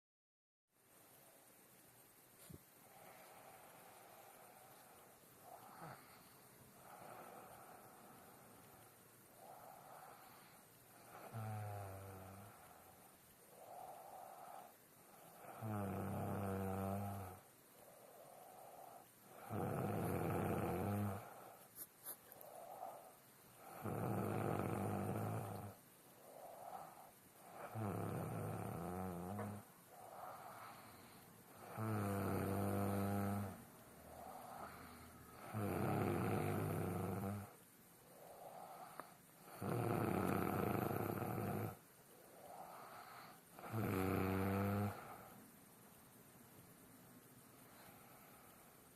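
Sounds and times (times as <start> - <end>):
quiet breaths: 0.8 - 48.9
woman snoring: 2.9 - 8.4, 9.4 - 21.6, 22.4 - 45.4.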